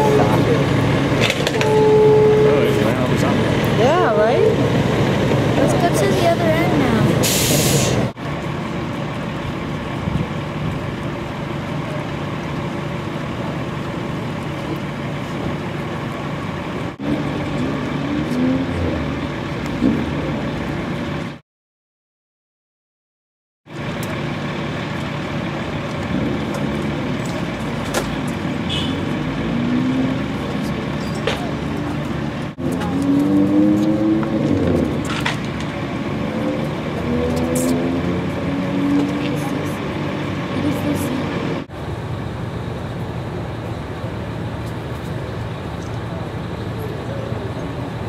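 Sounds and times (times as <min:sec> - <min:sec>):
diesel engines idling: 0:00.0 - 0:21.4, 0:23.7 - 0:48.0.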